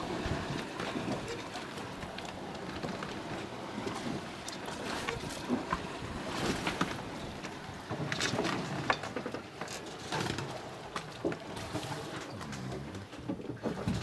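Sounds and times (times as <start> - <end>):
water splashing around boat: 0.0 - 14.0.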